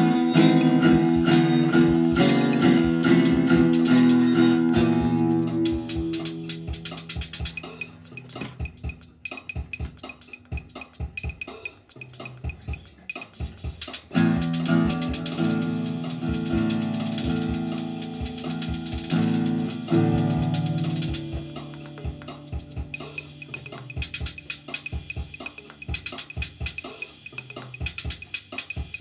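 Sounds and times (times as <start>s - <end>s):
instrumental music with drum beat: 0.0s - 29.0s.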